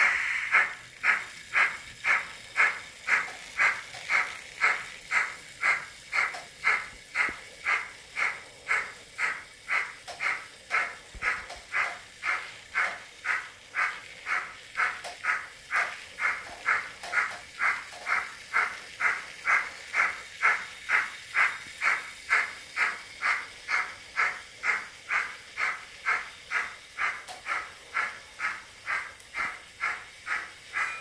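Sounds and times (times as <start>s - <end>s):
steam engine chuffs: 0.0s - 31.0s.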